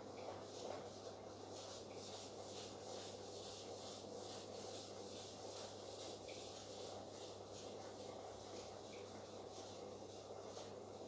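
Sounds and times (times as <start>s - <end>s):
eraser rubbing on whiteboard: 0.2s - 11.0s.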